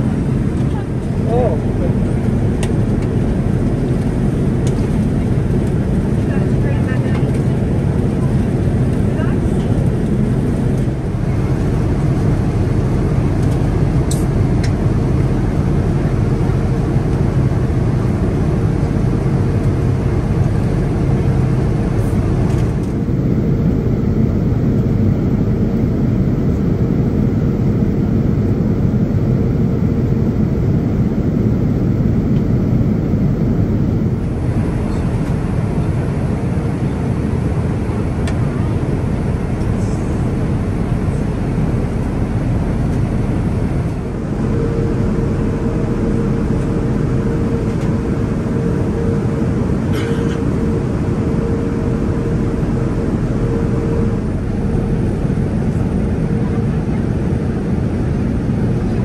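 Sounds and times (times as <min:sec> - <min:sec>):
airliner cabin engine and airflow noise: 0:00.0 - 0:59.0.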